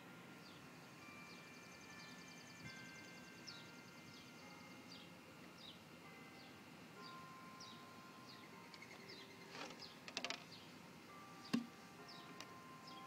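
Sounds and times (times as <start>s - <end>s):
distant church bells ringing: 0.0s - 13.0s
bird chirping: 0.4s - 13.0s.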